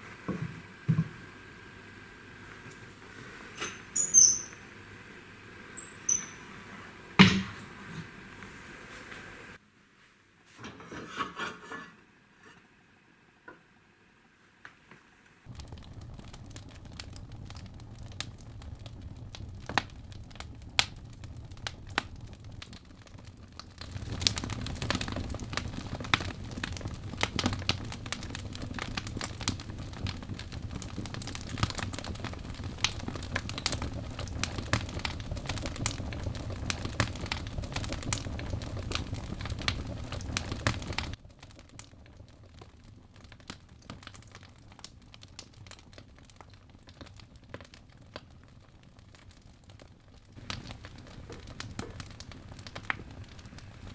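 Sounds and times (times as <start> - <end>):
wood fire crackling and popping: 0.0 - 9.6, 15.4 - 53.9.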